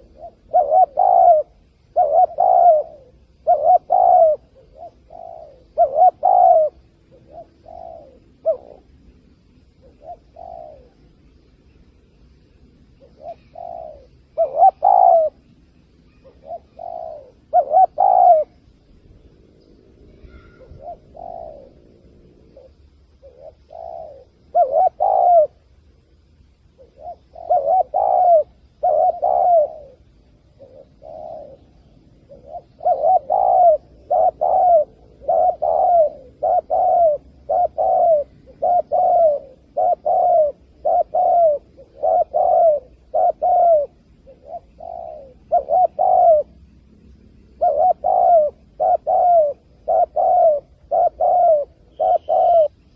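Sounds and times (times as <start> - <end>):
dove cooing: 0.0 - 11.5, 12.6 - 18.7, 19.4 - 52.9.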